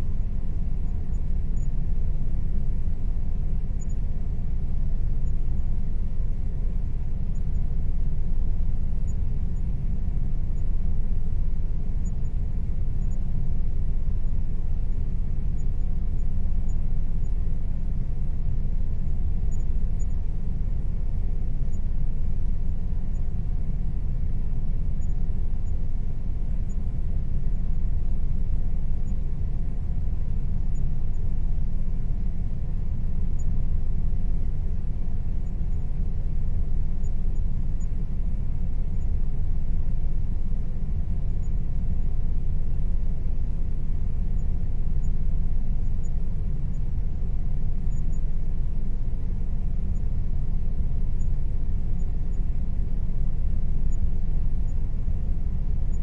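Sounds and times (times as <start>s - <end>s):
air conditioner humming: 0.0s - 55.8s.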